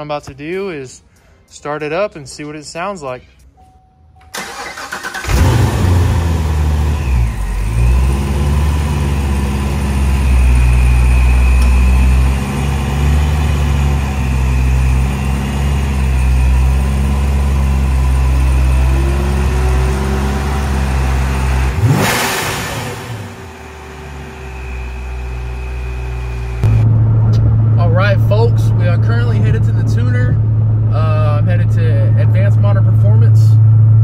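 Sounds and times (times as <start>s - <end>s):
car engine idling: 4.4s - 34.0s
supercharger whine: 4.5s - 34.0s.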